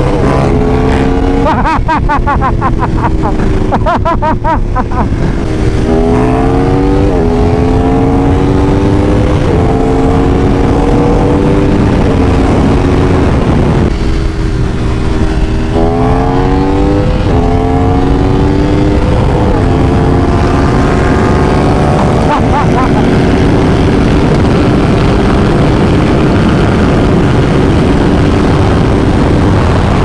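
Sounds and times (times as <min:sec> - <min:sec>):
heavy wind rush: 0:00.0 - 0:30.0
motorcycle engine accelerating: 0:00.0 - 0:30.0.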